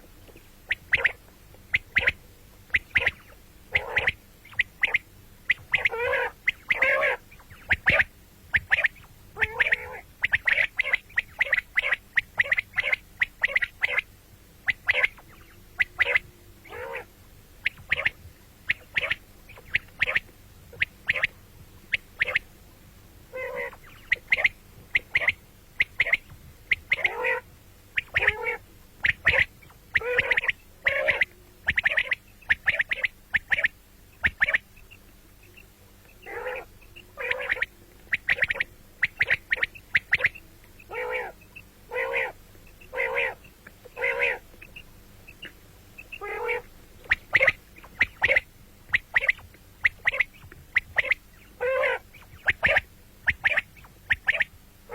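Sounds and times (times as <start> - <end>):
quail calling: 0.0 - 22.5, 23.3 - 54.9.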